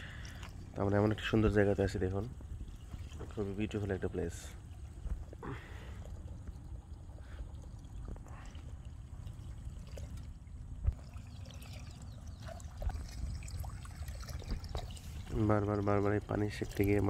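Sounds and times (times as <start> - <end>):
water pouring and splashing: 0.0 - 17.0.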